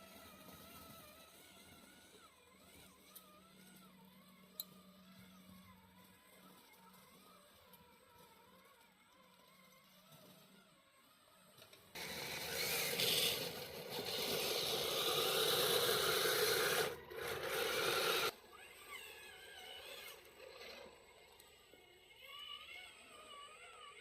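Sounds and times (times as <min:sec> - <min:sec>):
rc truck running over ground: 0:00.0 - 0:24.0.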